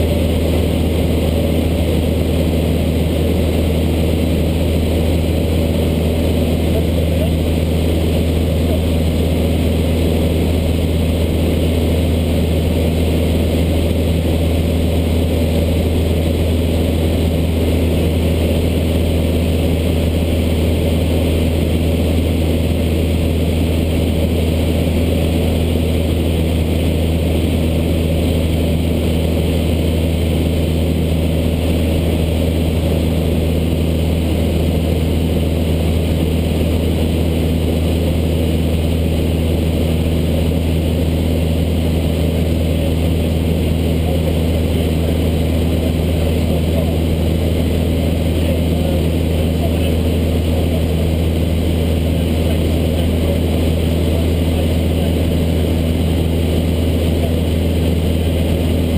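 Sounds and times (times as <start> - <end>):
light aircraft engine drone: 0.0 - 58.9.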